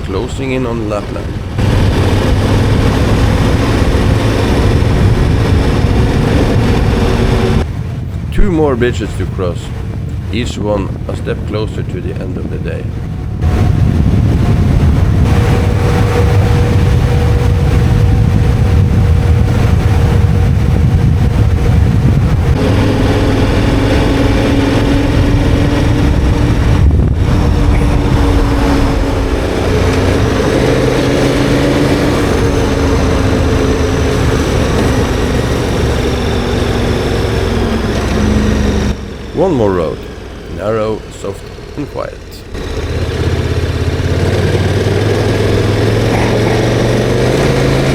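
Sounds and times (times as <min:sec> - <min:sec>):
motorcycle engine cruising: 0:00.0 - 0:08.4, 0:12.0 - 0:47.9
wind and tyre noise: 0:00.0 - 0:47.9.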